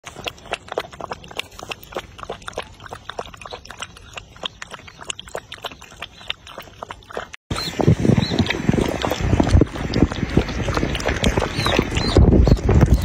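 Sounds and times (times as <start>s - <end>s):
dog lapping water: 0.0s - 13.0s.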